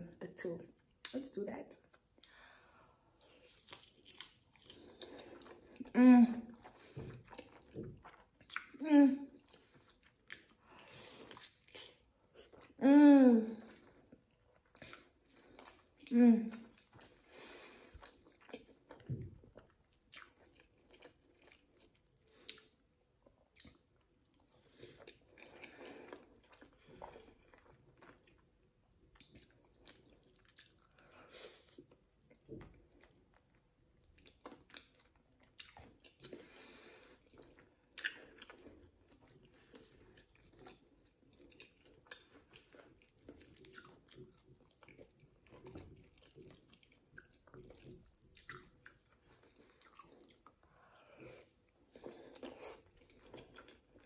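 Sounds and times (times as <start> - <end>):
person chewing: 3.2 - 5.9, 6.5 - 8.8, 9.4 - 12.8, 13.7 - 22.8, 23.4 - 54.0.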